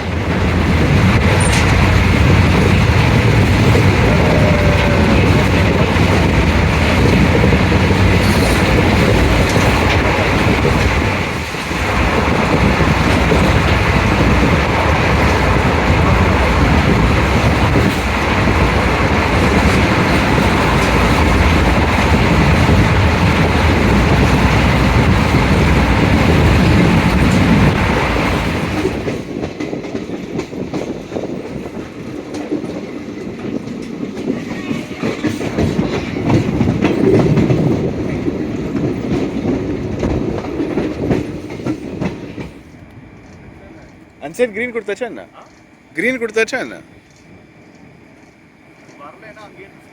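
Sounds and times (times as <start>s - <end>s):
train wheels clattering on rails: 0.0s - 49.9s.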